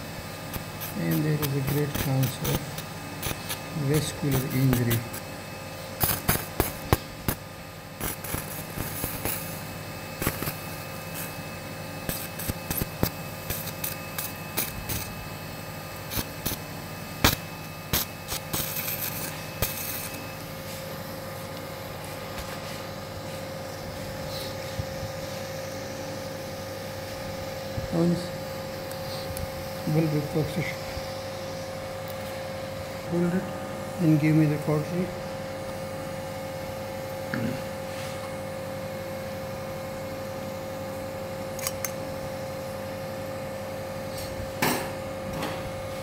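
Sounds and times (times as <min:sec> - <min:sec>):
steady hum with faint tone: 0:00.0 - 0:46.0.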